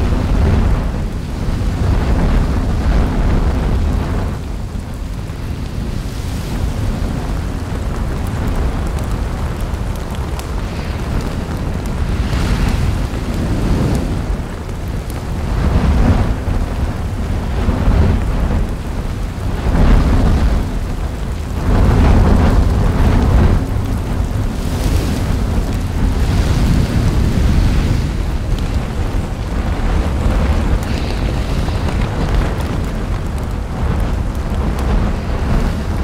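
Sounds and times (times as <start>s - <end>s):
deep rumbling roar of lava: 0.0s - 36.0s
lava spattering: 0.0s - 36.0s.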